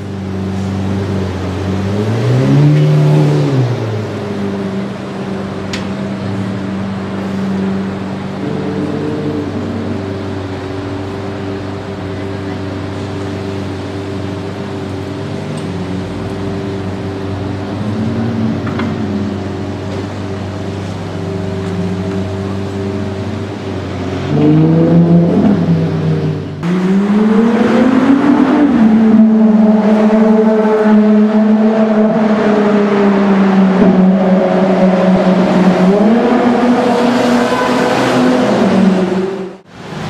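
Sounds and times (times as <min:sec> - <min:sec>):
sports car engine revving: 0:00.0 - 0:40.0.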